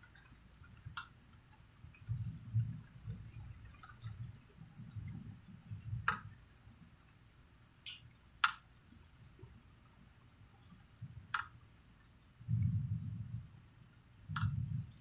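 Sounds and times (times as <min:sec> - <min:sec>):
faint low rumble: 0:00.0 - 0:08.3, 0:08.9 - 0:15.0
water dripping: 0:00.0 - 0:15.0.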